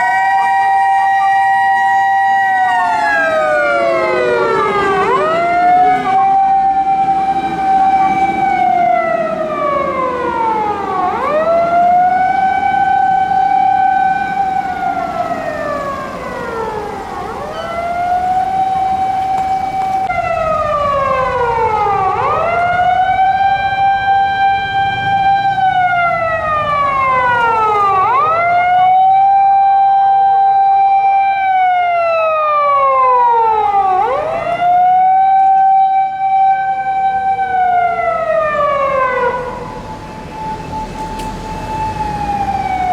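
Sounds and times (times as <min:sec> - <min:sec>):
fire engine motor siren wailing: 0:00.0 - 0:42.9.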